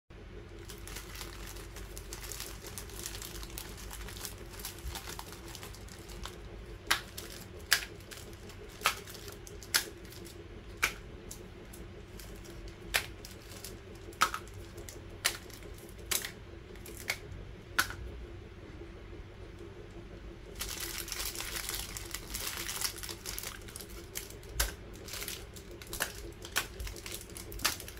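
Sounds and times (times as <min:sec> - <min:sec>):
faint steady hum: 0:00.1 - 0:27.9
plastic wrapper crinkling: 0:00.5 - 0:17.2, 0:20.5 - 0:27.9.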